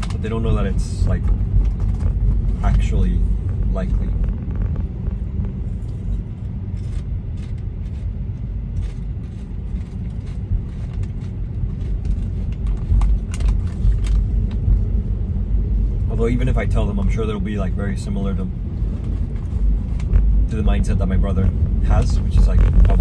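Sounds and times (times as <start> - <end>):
car road noise rumble: 0.0 - 23.0.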